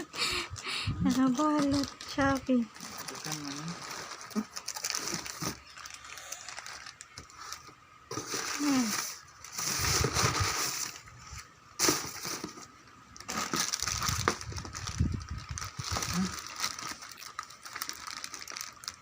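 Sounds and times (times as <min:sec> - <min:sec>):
packaging crinkling: 0:01.1 - 0:11.1, 0:11.8 - 0:19.0.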